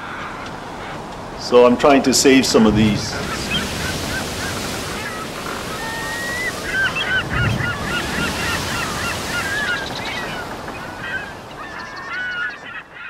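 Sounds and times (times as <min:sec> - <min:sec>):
birds honking: 0:00.0 - 0:13.0
steady rushing noise: 0:00.4 - 0:11.4.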